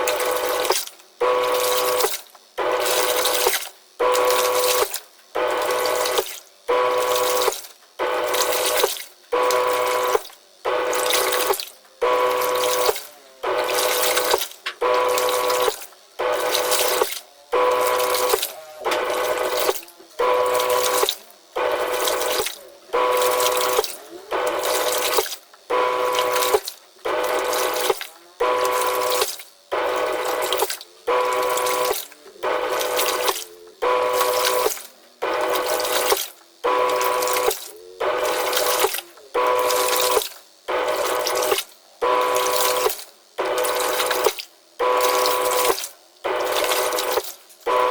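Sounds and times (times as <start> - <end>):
steady motor whine: 0.0 - 47.9
washing machine churning water: 0.0 - 47.9.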